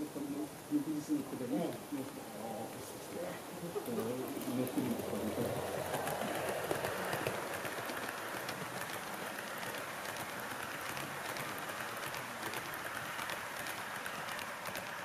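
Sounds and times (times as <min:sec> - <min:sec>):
model train wheels on rails: 0:00.0 - 0:15.0.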